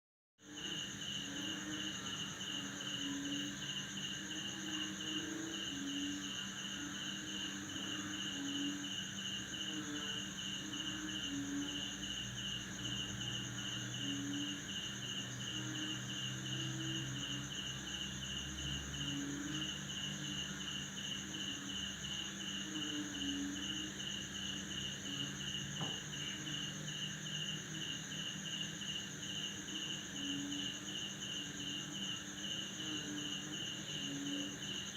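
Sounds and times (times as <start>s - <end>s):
crickets chirping in pulses: 0.4s - 34.9s
crickets trilling: 0.4s - 34.9s
frogs croaking: 0.4s - 34.9s.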